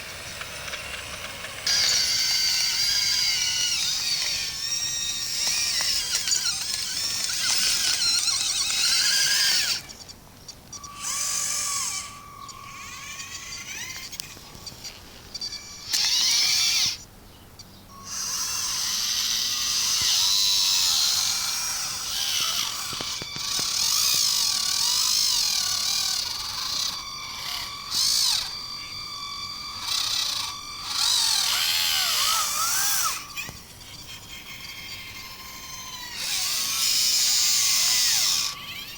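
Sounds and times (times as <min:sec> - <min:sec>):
model machine motors whining: 0:00.0 - 0:17.1, 0:17.9 - 0:38.9.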